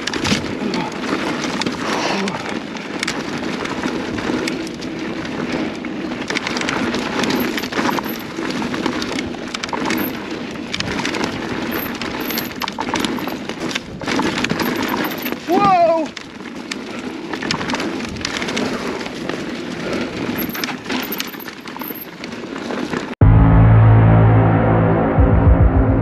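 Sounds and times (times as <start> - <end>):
bike clicks and rattles: 0.0 - 23.2
bike tyres crunching on dirt: 0.0 - 23.2.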